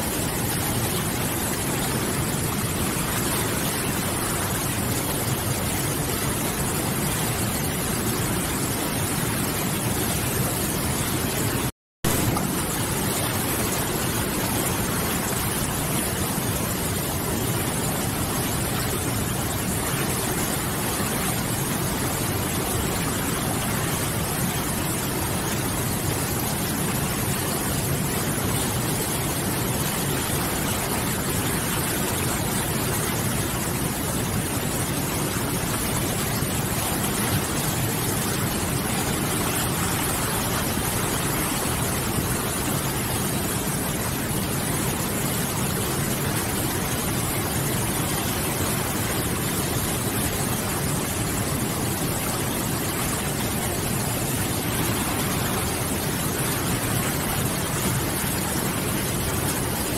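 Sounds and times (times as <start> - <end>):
river rushing over rapids: 0.0 - 59.9.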